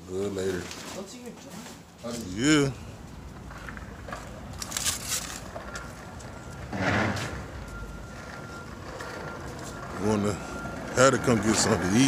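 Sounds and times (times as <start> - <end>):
footsteps on sidewalk: 0.3 - 12.0.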